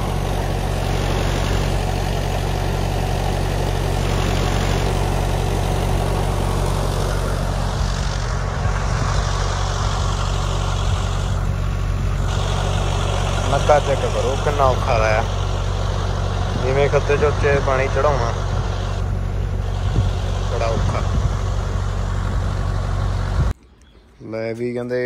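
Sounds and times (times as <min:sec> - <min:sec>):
engine humming steadily: 0:00.0 - 0:23.6.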